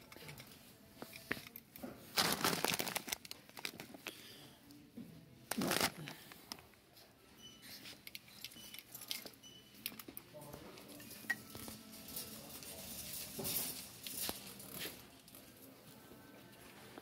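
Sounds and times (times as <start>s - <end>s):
store background noise: 0.0s - 17.0s.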